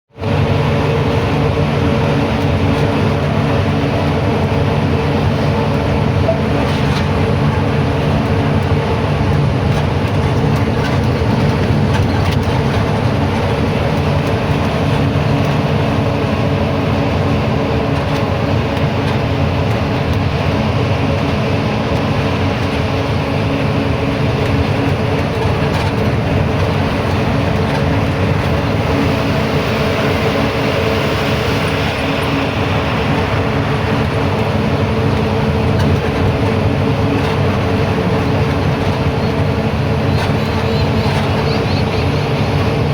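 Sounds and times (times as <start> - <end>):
road noise: 0.1 - 42.9
truck diesel engine droning: 0.1 - 42.9.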